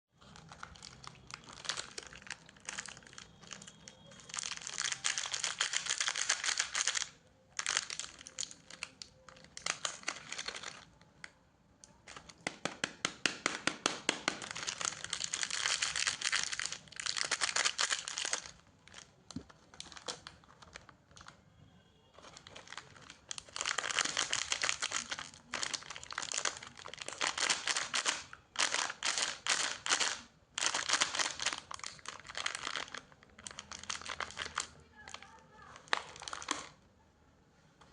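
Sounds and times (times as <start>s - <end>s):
plastic wrapper crinkling and tearing: 0.2s - 21.4s, 22.2s - 36.8s.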